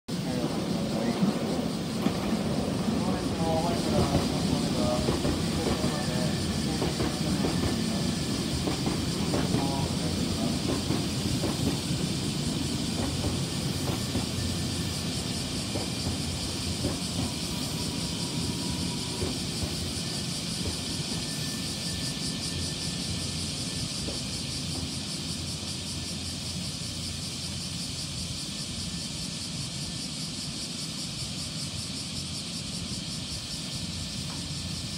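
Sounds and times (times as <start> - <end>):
electric train pulling in: 0.1 - 34.9
steady hiss: 0.1 - 34.9.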